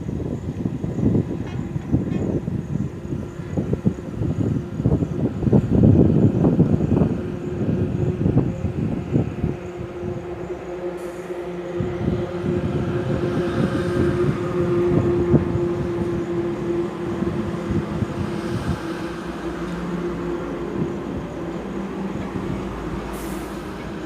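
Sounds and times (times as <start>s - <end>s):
heavy truck engine rumble: 0.0s - 24.0s.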